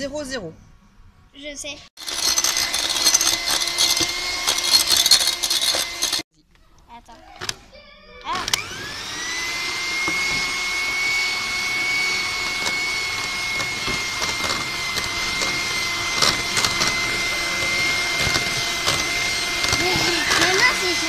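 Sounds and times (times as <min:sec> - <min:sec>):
electric hand mixer whining: 0:02.0 - 0:06.3, 0:08.3 - 0:21.0.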